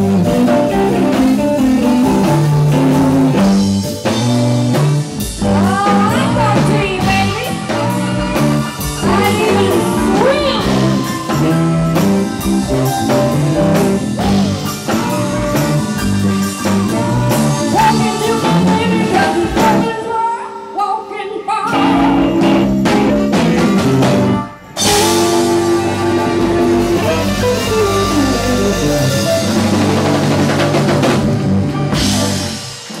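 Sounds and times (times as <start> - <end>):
blues-rock band playing: 0.0 - 33.0.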